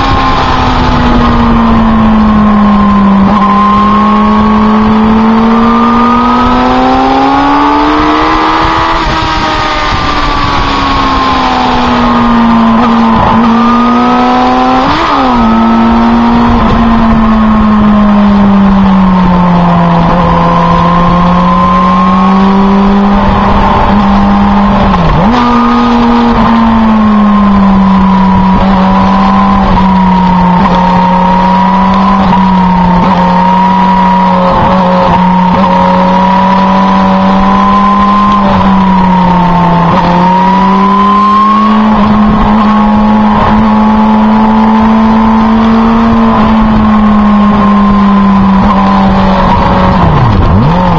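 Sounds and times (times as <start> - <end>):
motorcycle engine cruising: 0.0 - 50.9.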